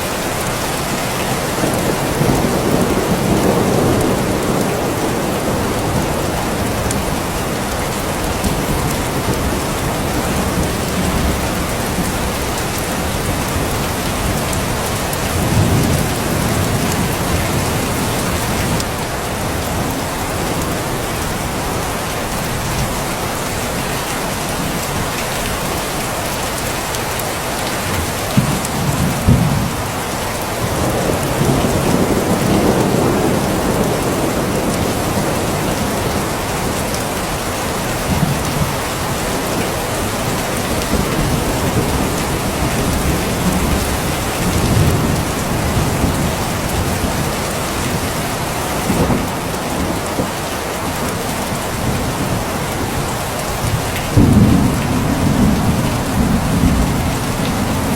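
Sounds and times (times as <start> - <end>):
heavy rain: 0.0 - 57.9
thunder rumbling: 0.2 - 22.6, 27.9 - 57.9.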